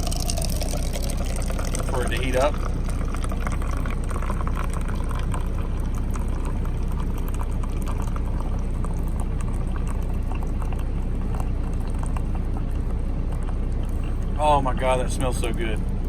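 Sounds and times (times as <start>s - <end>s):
hot water gurgling and spluttering: 0.0s - 16.0s
steady low hum: 0.0s - 16.0s.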